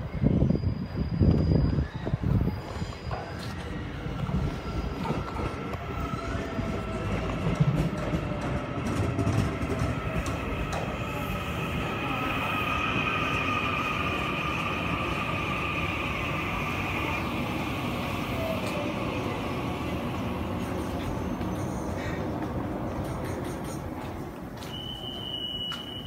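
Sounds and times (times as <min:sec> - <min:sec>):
electric train rumble: 0:00.0 - 0:26.0
high-pitched train tone: 0:00.0 - 0:26.0.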